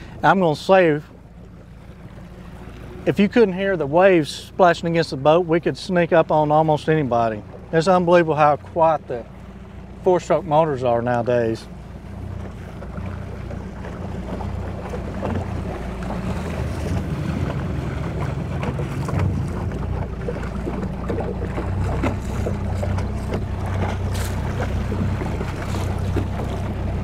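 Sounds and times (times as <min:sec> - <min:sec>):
outboard motor idling: 0:00.0 - 0:27.0
propeller churning water: 0:00.0 - 0:27.0
waves splashing against hull: 0:00.0 - 0:27.0.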